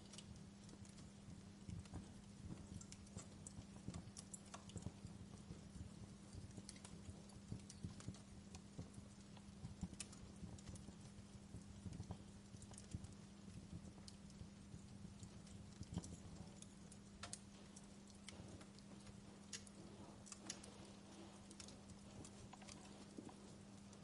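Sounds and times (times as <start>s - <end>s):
fireplace fire crackling: 0.0s - 24.0s
steady low hum: 0.0s - 24.0s.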